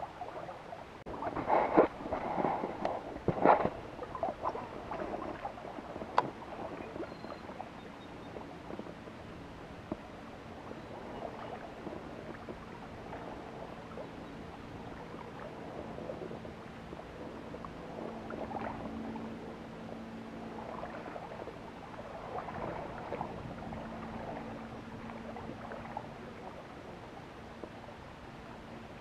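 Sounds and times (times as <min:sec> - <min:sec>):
steady low hum: 0:00.0 - 0:29.0
water lapping and splashing: 0:00.0 - 0:29.0.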